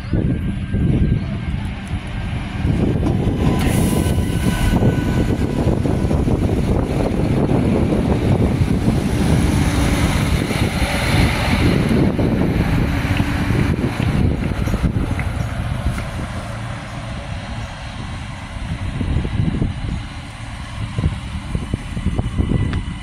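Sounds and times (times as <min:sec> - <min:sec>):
train engine and rail noise: 0:00.0 - 0:23.0.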